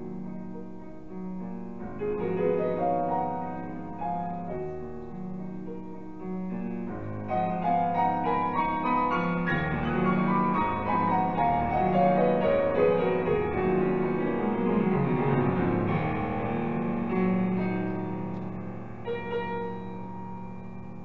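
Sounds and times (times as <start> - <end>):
solo piano playing: 0.0 - 21.0.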